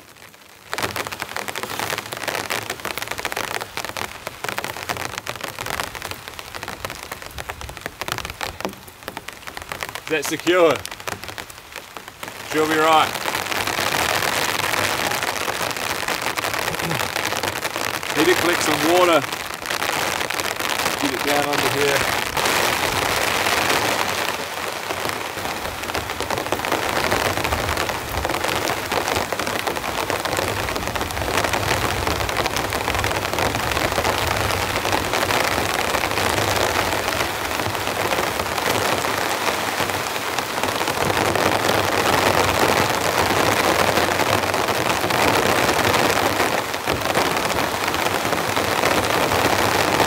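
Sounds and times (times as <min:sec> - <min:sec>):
heavy rain on a tarp: 0:00.0 - 0:50.0.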